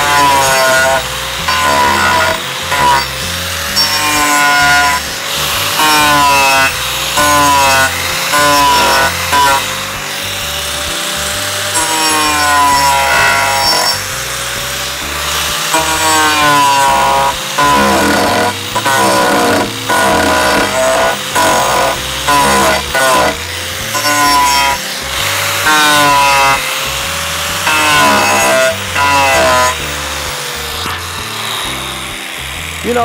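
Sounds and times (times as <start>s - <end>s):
angle grinder grinding wood: 0.0s - 33.0s.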